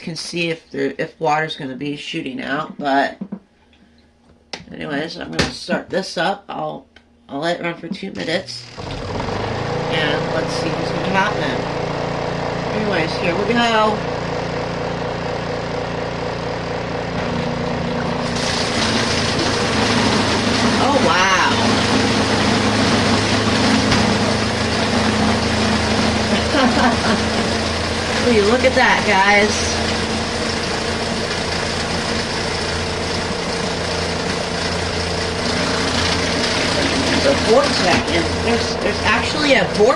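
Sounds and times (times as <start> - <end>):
spin dryer motor humming: 7.8 - 39.9.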